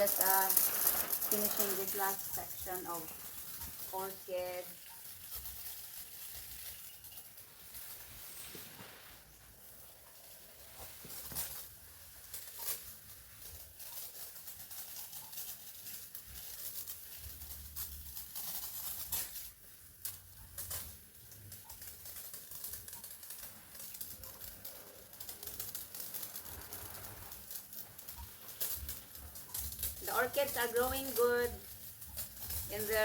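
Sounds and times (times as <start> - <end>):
water spraying on plants: 0.0 - 33.0.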